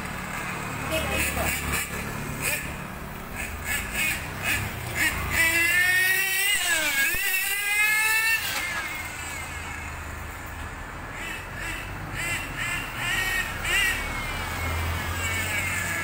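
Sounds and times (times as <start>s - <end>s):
toy car motor whining: 1.0s - 2.8s, 3.4s - 10.2s, 11.6s - 16.0s.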